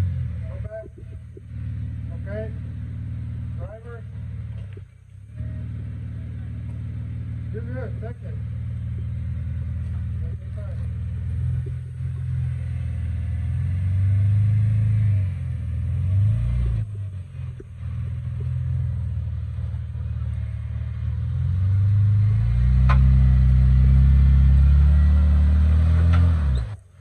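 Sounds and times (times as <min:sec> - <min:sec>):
car engine at low revs: 0:00.0 - 0:27.0.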